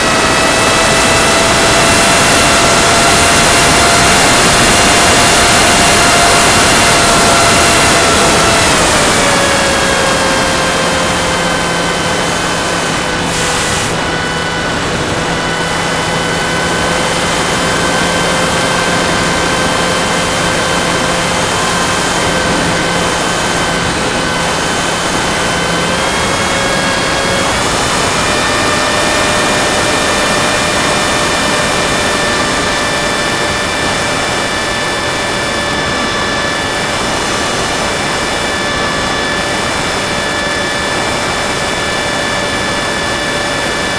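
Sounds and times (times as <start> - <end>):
electric motor whine: 0.0 - 43.9.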